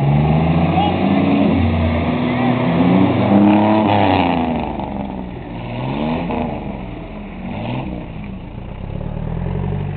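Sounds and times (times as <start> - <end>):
truck engine revving: 0.0 - 9.9.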